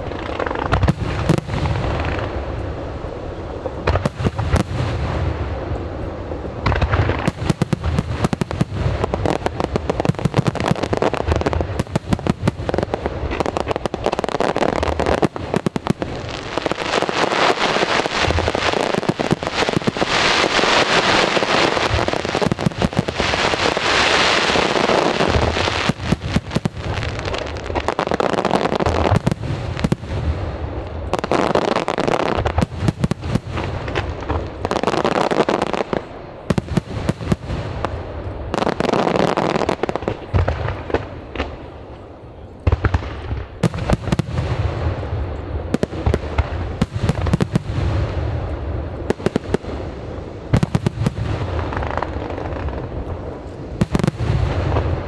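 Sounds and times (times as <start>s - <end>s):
firework shells booming: 0.0s - 55.0s
fireworks crackling and popping: 0.0s - 55.0s.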